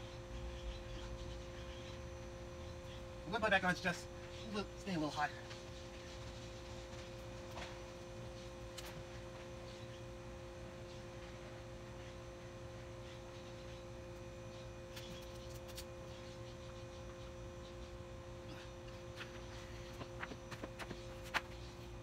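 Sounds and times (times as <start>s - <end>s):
steady two-tone hum: 0.0s - 22.0s.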